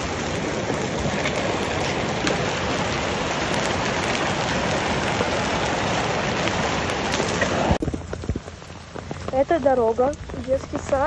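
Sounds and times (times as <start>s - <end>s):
hailstones ticking: 0.0s - 11.0s
heavy rain on asphalt: 0.0s - 11.0s.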